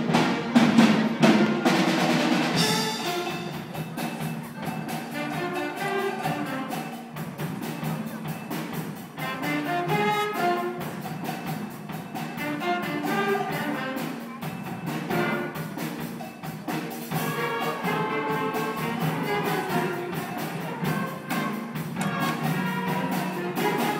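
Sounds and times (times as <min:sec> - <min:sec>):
horns playing a tune: 0:00.0 - 0:16.3, 0:17.0 - 0:23.9
steady drum beat: 0:00.0 - 0:23.9.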